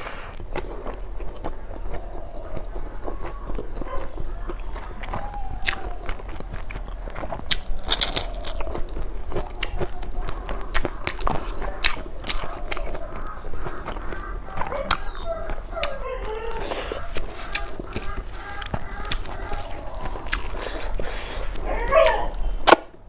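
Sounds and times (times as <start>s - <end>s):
person chewing with mouth clicks: 0.0s - 22.9s.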